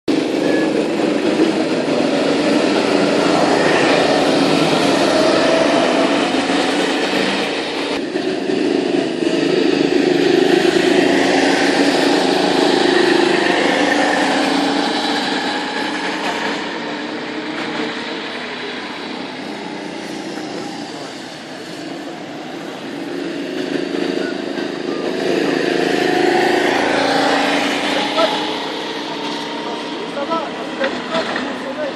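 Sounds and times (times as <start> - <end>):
go-kart engines running: 0.1 - 31.9.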